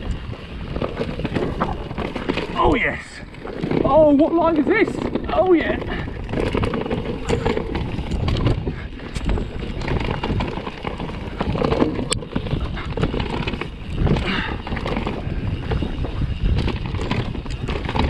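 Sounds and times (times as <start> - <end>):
bike rattling over bumps: 0.0 - 18.0
bike tyres rumbling on dirt: 0.0 - 18.0
wind buffeting microphone: 0.0 - 18.0.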